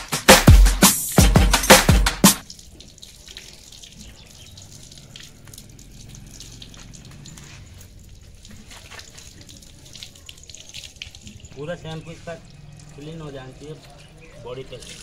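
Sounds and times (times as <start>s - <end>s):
hose water splashing: 0.2s - 15.0s
water dripping: 1.2s - 15.0s.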